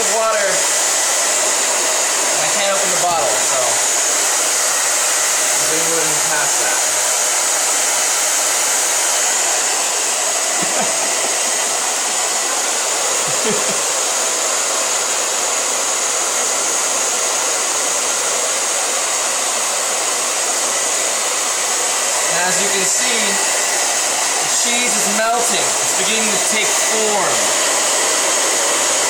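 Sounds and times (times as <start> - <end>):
hair dryer blowing air: 0.0 - 29.0.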